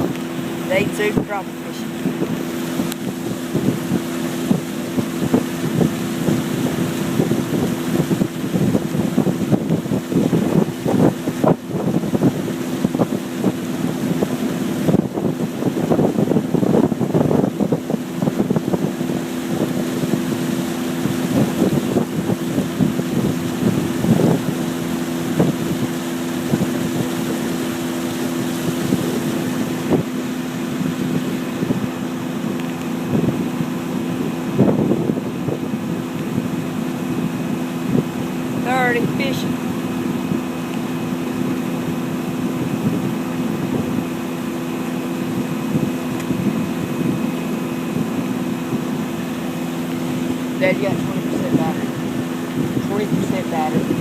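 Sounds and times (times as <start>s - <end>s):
boat motor running: 0.0s - 54.0s
wind buffeting microphone: 0.0s - 54.0s.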